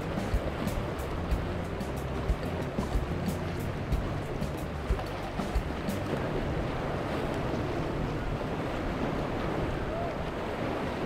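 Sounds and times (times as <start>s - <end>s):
rushing water: 0.0s - 11.0s
wind: 0.0s - 11.0s.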